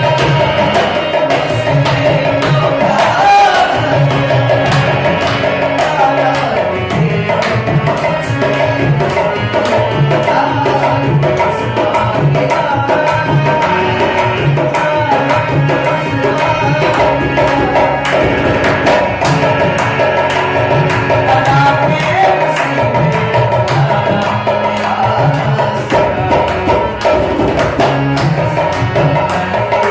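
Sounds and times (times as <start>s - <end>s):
dholak fast rhythm: 0.0s - 29.9s
instrumental melody: 0.0s - 29.9s.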